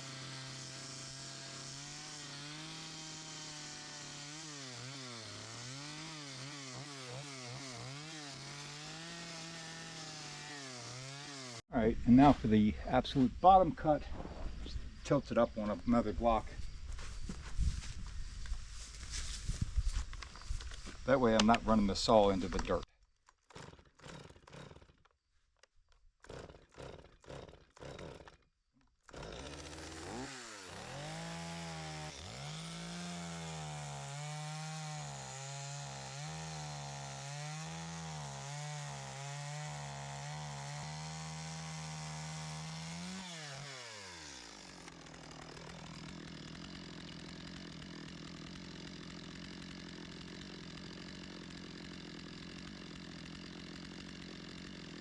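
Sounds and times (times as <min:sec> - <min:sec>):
chainsaw cutting wood: 0:00.0 - 0:12.3, 0:17.0 - 0:55.0.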